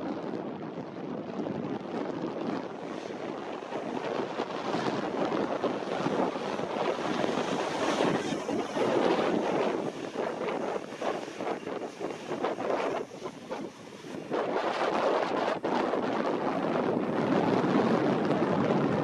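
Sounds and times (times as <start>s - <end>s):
wind buffeting microphone: 0.0s - 19.0s
jet engines taxiing: 1.9s - 18.3s.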